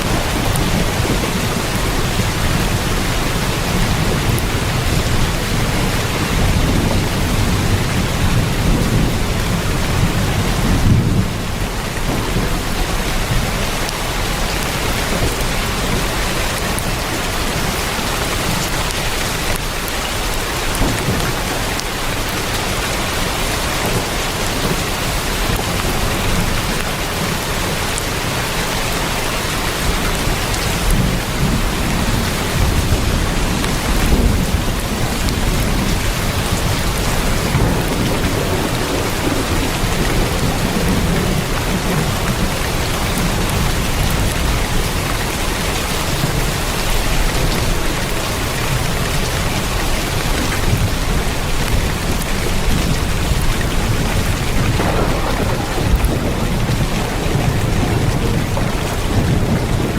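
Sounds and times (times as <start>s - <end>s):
heavy rain on a tin roof: 0.0s - 59.9s
low rumbles of thunder: 0.0s - 59.9s.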